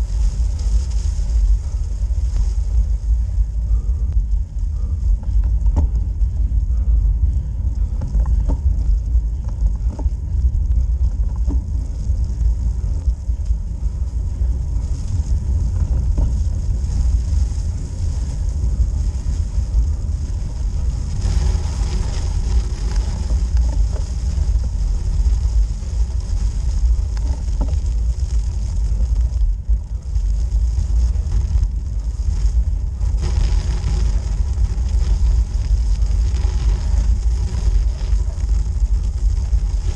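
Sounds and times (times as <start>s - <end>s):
tyres hissing on snowy road: 0.0s - 39.9s
wind buffeting microphone: 0.0s - 39.9s.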